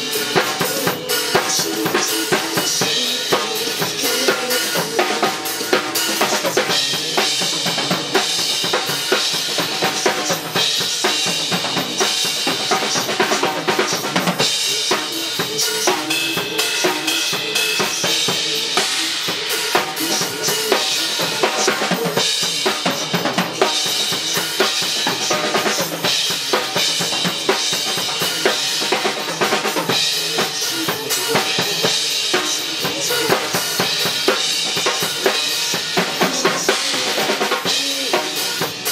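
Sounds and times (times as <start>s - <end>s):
recorded song playing: 0.0s - 11.6s, 12.3s - 38.9s
drum kit playing: 0.0s - 38.9s.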